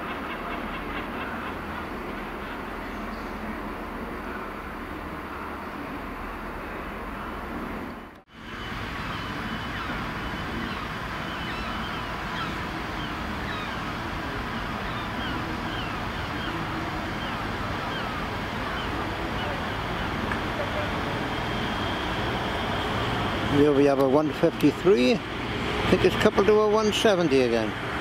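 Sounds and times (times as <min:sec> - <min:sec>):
diesel train engine: 0:00.0 - 0:28.0
distant diesel train rumble: 0:00.0 - 0:28.0.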